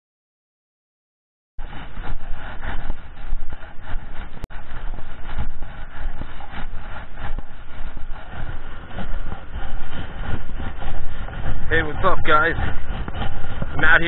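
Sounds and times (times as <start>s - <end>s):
footsteps in dry sand: 1.6s - 14.0s
wind buffeting microphone: 1.6s - 14.0s.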